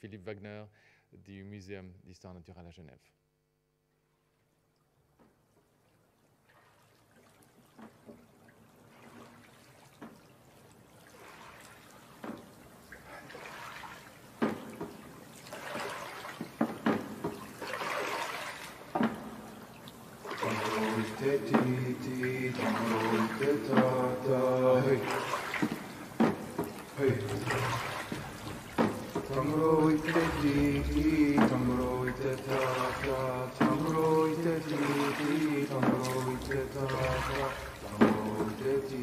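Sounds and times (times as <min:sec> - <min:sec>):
water sloshing and trickling: 0:04.0 - 0:39.0
water splashes: 0:04.1 - 0:39.0.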